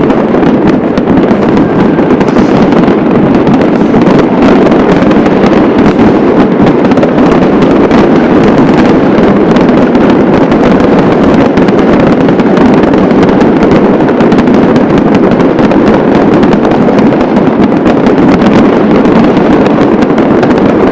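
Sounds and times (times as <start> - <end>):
fireworks and firecrackers: 0.0 - 20.9.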